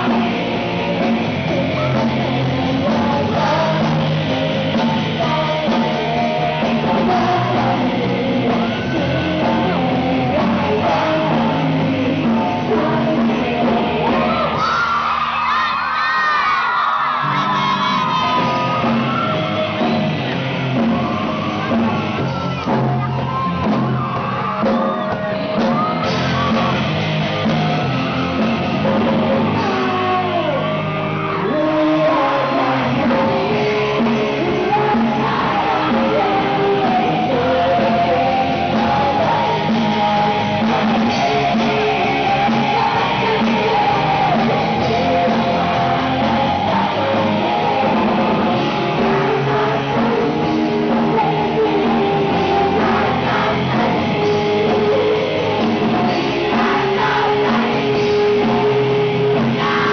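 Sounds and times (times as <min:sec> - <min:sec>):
drums: 0:00.0 - 0:59.9
electric guitars: 0:00.0 - 0:59.9
singer singing: 0:00.0 - 0:59.9.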